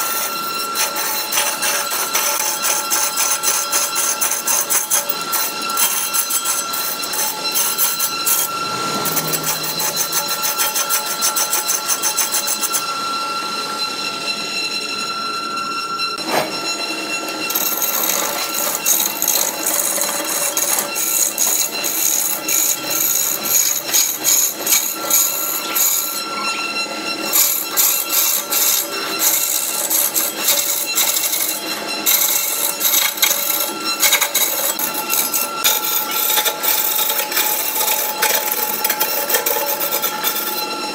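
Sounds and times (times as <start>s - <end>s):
lathe tool cutting wood: 0.0s - 14.3s, 15.5s - 40.9s.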